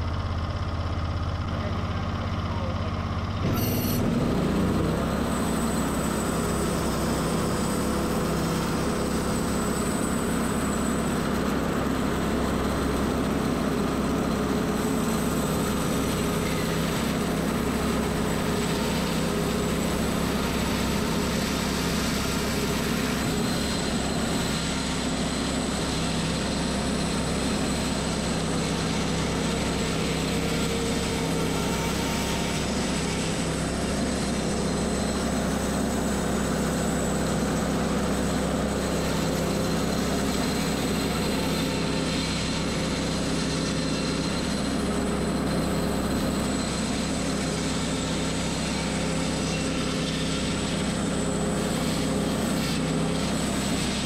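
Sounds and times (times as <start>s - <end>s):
sawmill cutting logs: 3.4s - 54.0s.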